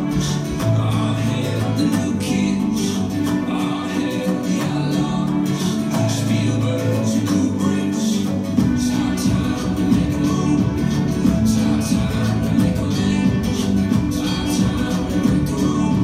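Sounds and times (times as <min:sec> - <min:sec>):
low bass notes: 0:00.0 - 0:16.0
music with steady beat: 0:00.0 - 0:16.0.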